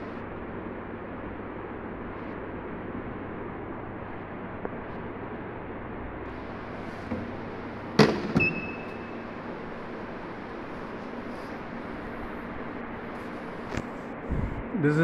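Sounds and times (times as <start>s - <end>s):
chiller pump humming with hiss: 0.0s - 15.0s.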